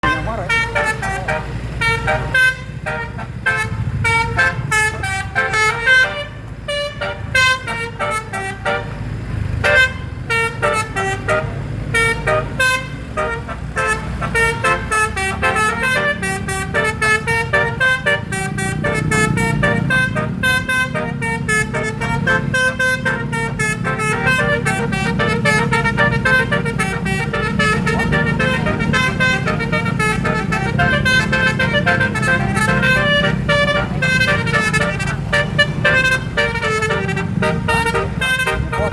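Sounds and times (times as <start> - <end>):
air horn playing fast melody: 0.0 - 9.0, 9.6 - 38.9
bus engine running: 0.0 - 38.9.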